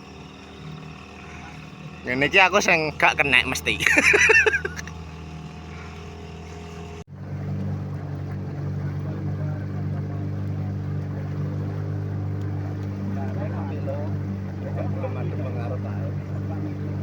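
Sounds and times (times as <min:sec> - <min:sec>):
small boat engine running: 0:00.0 - 0:17.0.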